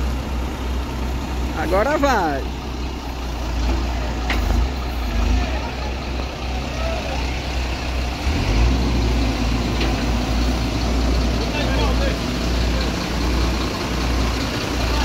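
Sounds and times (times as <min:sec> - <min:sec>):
diesel engine labouring: 0:00.0 - 0:15.0.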